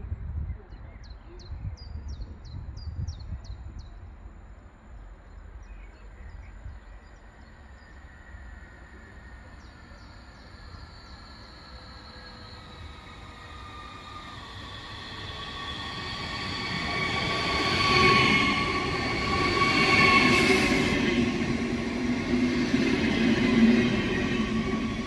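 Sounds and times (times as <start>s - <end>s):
electric train whine: 4.3s - 25.0s.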